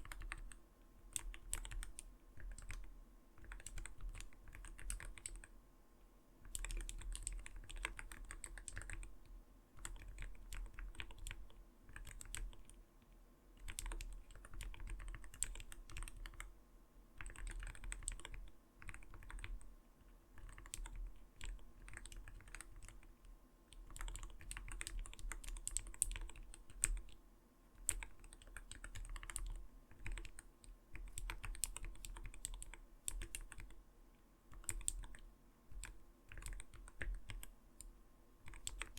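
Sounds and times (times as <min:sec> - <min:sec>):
typing on mechanical keyboard: 0:00.0 - 0:05.5, 0:06.4 - 0:09.1, 0:09.8 - 0:12.8, 0:13.6 - 0:16.5, 0:17.2 - 0:19.6, 0:20.4 - 0:23.1, 0:23.7 - 0:27.2, 0:27.8 - 0:33.8, 0:34.5 - 0:37.5, 0:38.4 - 0:38.9.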